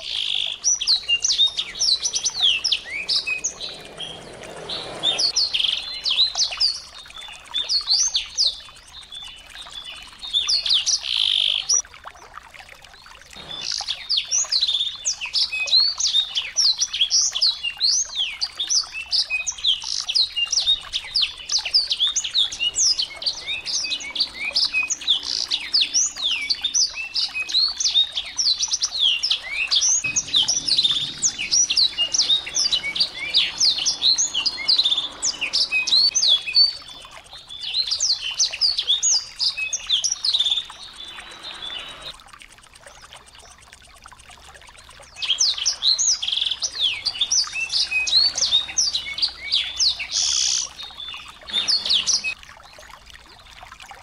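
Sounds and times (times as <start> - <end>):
small birds chirping: 0.0 - 11.8, 13.3 - 52.4.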